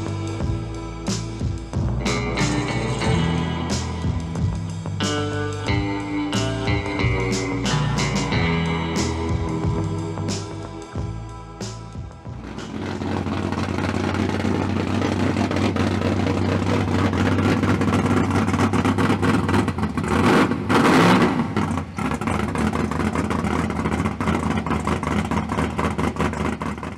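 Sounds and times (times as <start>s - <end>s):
car engine humming: 0.0s - 26.9s.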